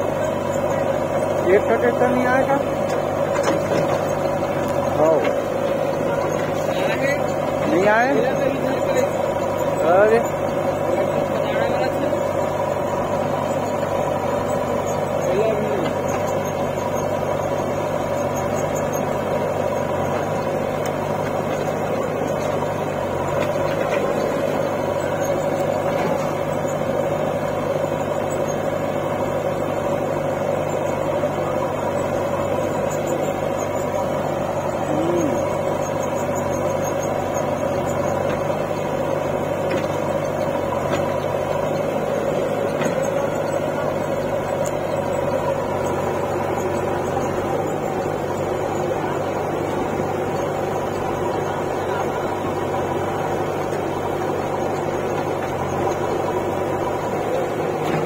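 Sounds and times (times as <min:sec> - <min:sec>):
diesel engines running steadily: 0:00.0 - 0:58.0.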